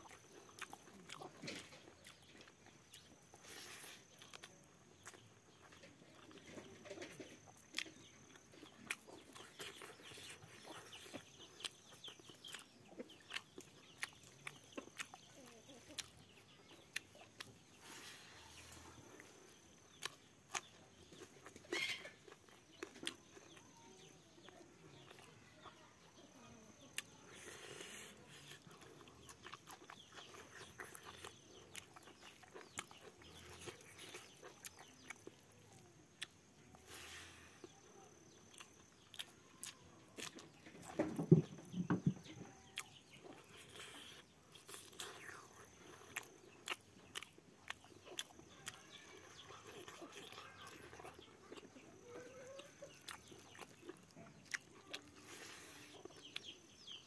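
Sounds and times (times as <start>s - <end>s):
chicken clucking faintly: 0.0s - 56.5s
person chewing and lip smacking: 0.0s - 57.0s.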